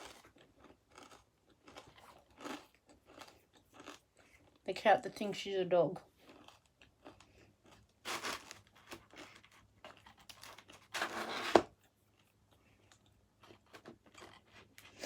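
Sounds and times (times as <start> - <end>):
pizza crust crunching: 0.0 - 4.6, 6.2 - 15.0.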